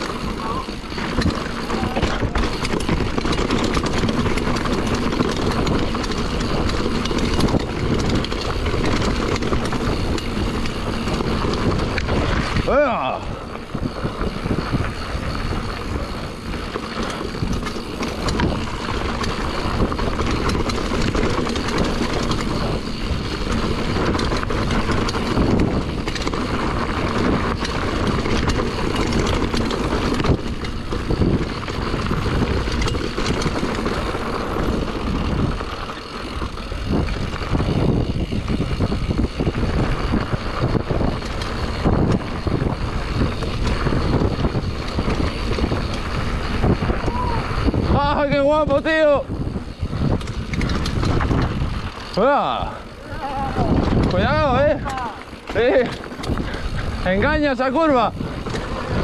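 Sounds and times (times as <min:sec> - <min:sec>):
bike knocking and rattling: 0:00.0 - 0:59.0
tyres on dirt and rock: 0:00.0 - 0:59.0
wind rushing over microphone: 0:00.0 - 0:59.0.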